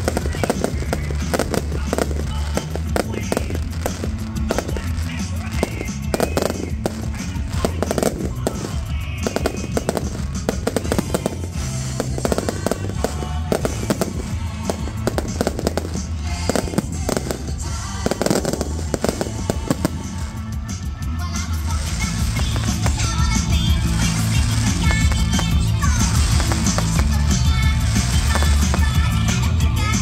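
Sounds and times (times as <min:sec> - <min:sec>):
fireworks bangs and crackles: 0:00.0 - 0:30.0
loud music with bass: 0:00.0 - 0:30.0.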